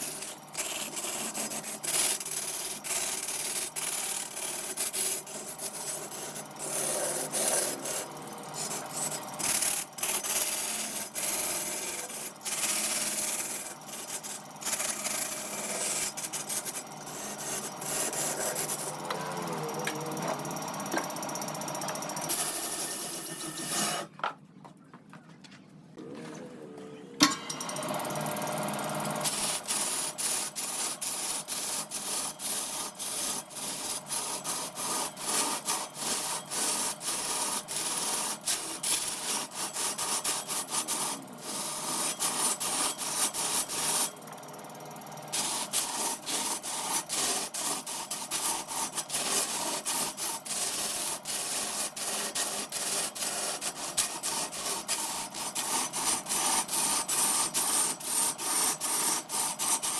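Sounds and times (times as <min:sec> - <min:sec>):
tool scraping wood on lathe: 0:00.0 - 0:24.1, 0:27.6 - 0:44.4, 0:45.2 - 0:59.9.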